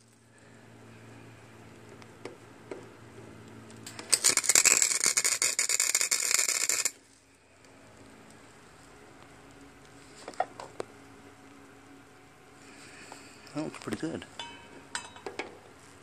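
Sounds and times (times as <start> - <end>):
welder arc crackling: 0.0 - 0.5, 1.5 - 16.0
low steady hum: 0.0 - 16.0.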